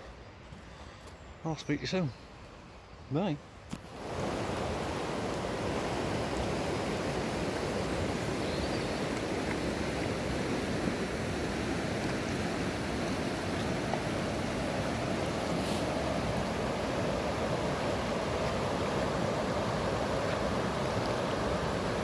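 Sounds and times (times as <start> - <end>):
water rushing over stones: 3.8 - 22.0.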